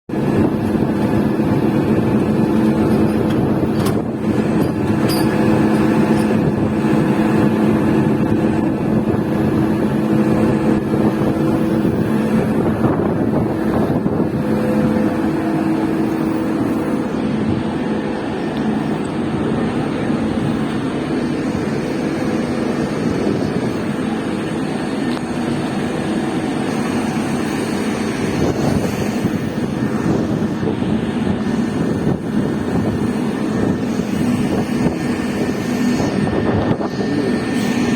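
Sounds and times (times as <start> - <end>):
boat engine humming: 0.1 - 37.9.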